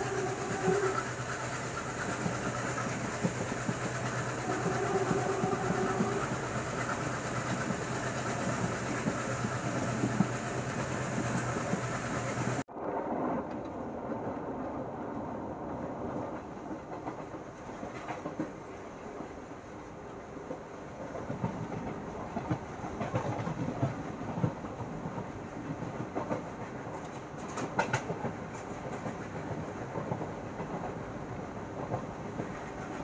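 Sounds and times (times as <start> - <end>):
train rumbling on track: 0.0 - 33.0.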